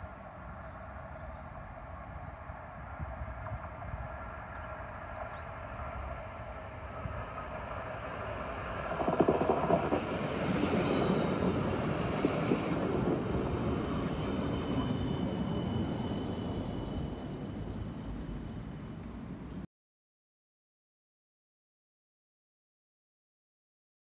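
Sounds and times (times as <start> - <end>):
tram wheels running on rails: 0.0 - 19.7.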